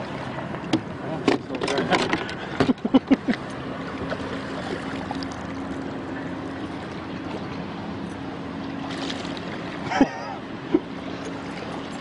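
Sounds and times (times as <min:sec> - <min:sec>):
boat motor humming: 0:00.0 - 0:12.0
wind and water noise: 0:00.0 - 0:12.0.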